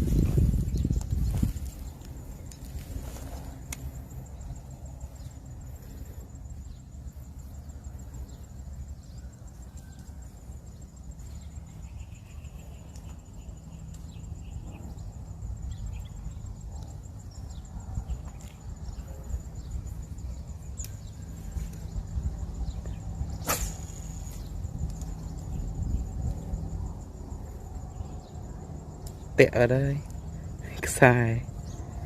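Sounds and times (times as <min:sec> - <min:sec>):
constant low rumble: 0:00.0 - 0:32.0
insect trilling: 0:00.0 - 0:32.0.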